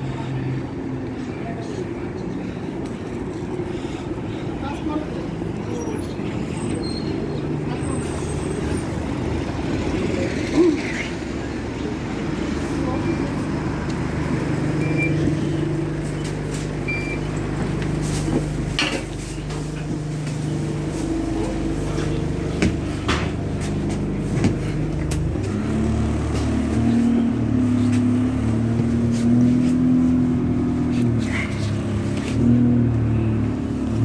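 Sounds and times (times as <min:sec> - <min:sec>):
bus diesel engine idling: 0:00.0 - 0:34.0.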